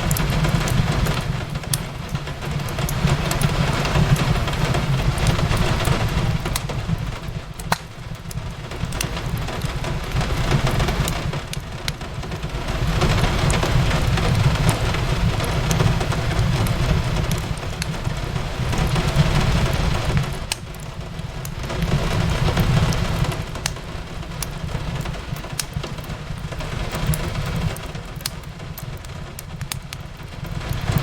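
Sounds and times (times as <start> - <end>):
steady rain hiss: 0.0 - 31.0
wood fire crackling and popping: 0.0 - 31.0.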